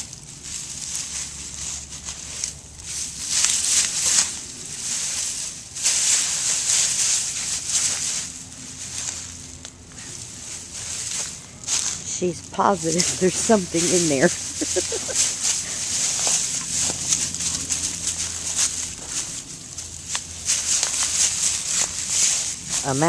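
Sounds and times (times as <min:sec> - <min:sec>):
dry leaves rustling and crunching: 0:00.0 - 0:23.0.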